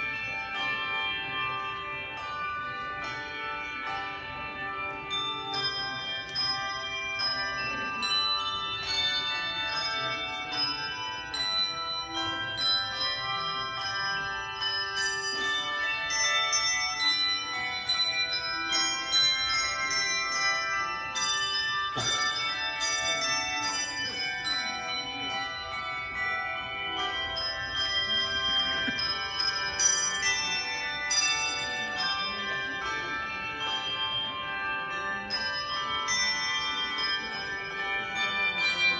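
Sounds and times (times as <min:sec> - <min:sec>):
bells ringing: 0:00.0 - 0:38.9.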